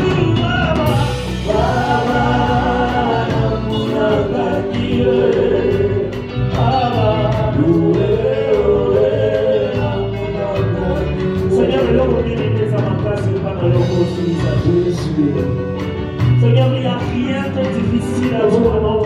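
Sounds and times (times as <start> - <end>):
voices singing gospel: 0.0 - 15.6
band playing: 0.0 - 19.0.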